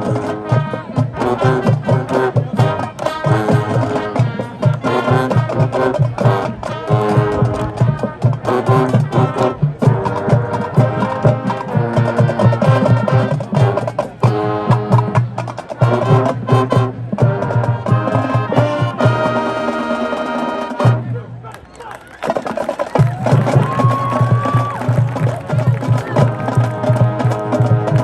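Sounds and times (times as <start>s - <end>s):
brass playing tune: 0.0s - 21.4s, 22.2s - 28.0s
drumline percussion: 0.0s - 28.0s.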